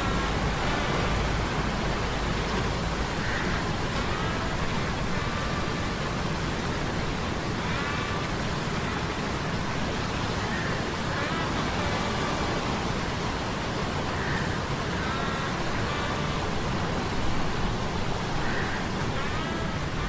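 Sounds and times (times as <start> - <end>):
rain: 0.0 - 20.0
surf: 0.0 - 20.0
wind: 0.0 - 20.0.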